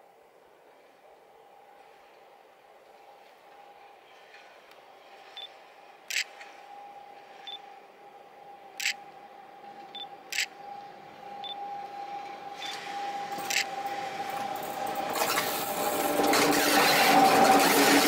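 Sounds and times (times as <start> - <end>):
electric locomotive hum: 0.0 - 18.0.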